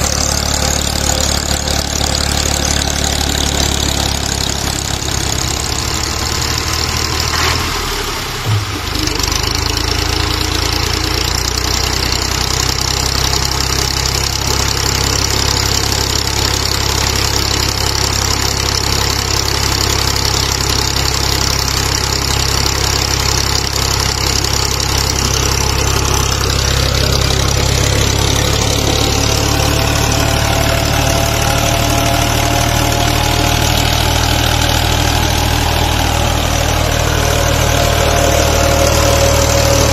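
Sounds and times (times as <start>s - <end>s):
engine knock: 0.0s - 39.9s
tractor diesel engine running: 0.0s - 39.9s.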